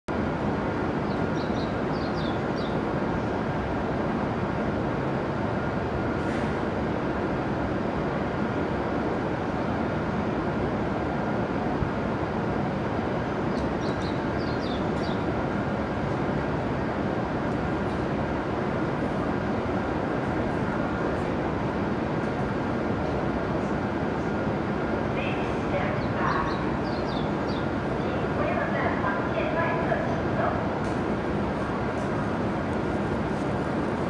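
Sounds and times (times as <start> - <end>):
station platform rushing noise: 0.1 - 34.0.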